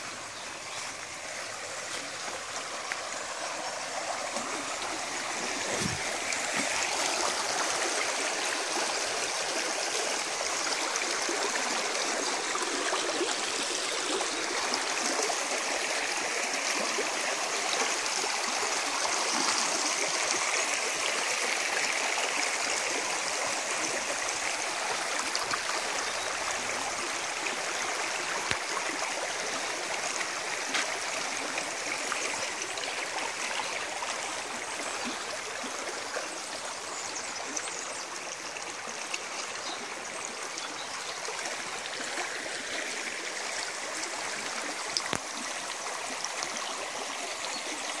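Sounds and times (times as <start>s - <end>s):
stream babbling over stones: 0.0s - 48.0s.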